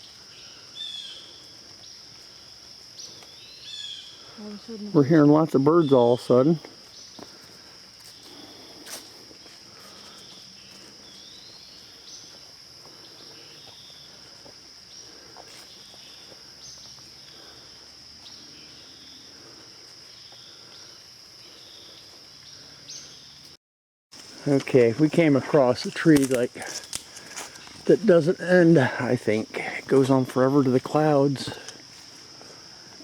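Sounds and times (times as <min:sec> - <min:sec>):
high-pitched insect trill: 0:00.0 - 0:23.6, 0:24.2 - 0:33.0.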